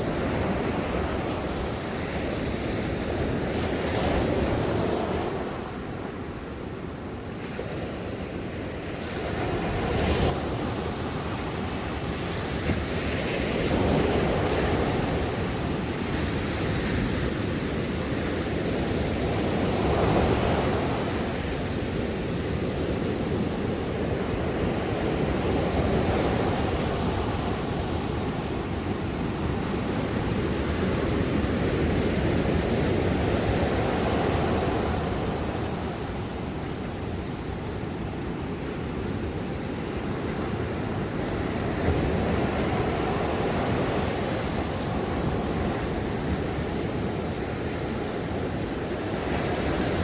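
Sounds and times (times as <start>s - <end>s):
ocean waves breaking on shore: 7.2s - 50.0s.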